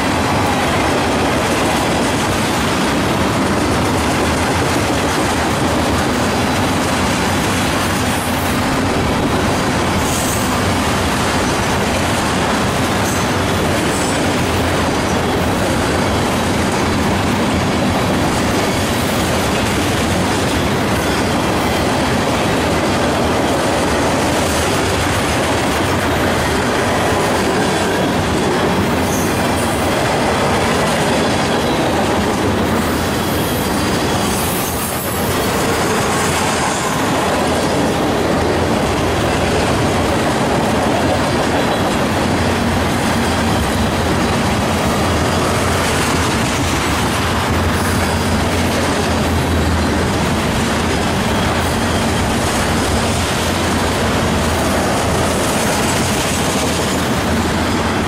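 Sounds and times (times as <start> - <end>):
steel wheels on rails: 0.0 - 58.0.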